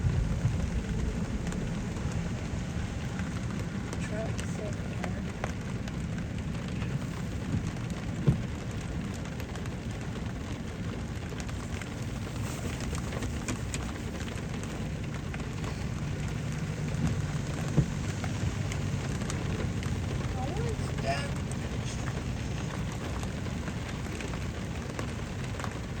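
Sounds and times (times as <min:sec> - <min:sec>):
rain pattering on a car: 0:00.0 - 0:26.0.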